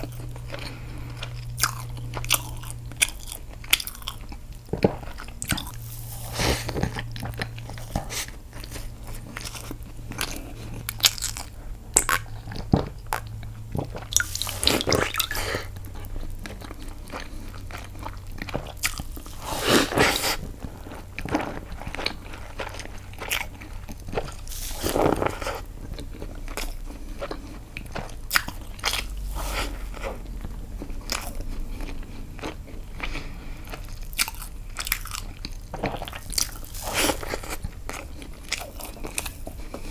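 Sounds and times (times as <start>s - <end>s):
wet chewing and biting: 0.0s - 39.9s.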